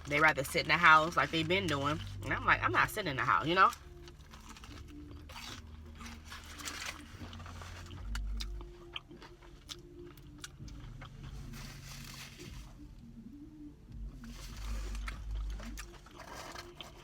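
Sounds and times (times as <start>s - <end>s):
crunchy chewing: 0.0s - 2.5s, 3.2s - 12.6s, 14.2s - 17.0s.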